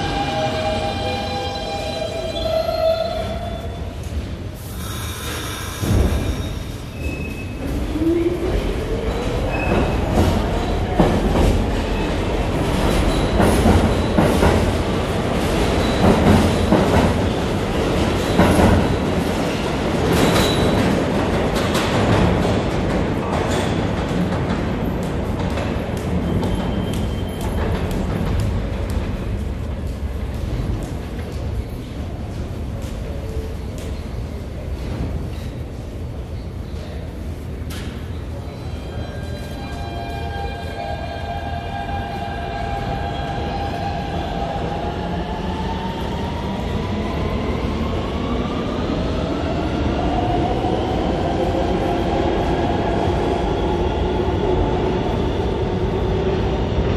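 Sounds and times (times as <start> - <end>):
subway train rumble: 0.0 - 56.9.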